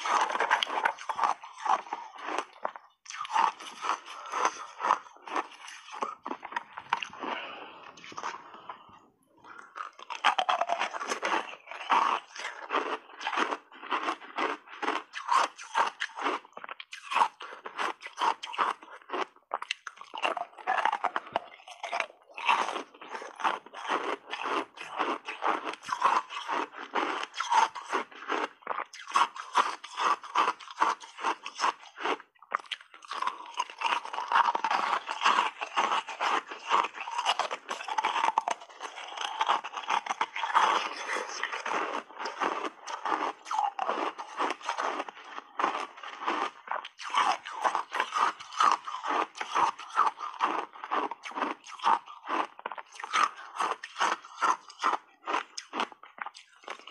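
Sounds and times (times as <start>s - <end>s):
mouth crunching ice: 0.0s - 56.9s.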